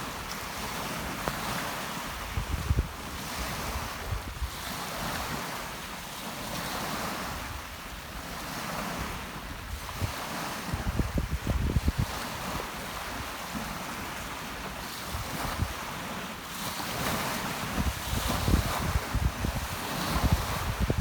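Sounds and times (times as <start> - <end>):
wind buffeting microphone: 0.0 - 5.7, 6.5 - 21.0
sea surf breaking on shore: 0.0 - 21.0.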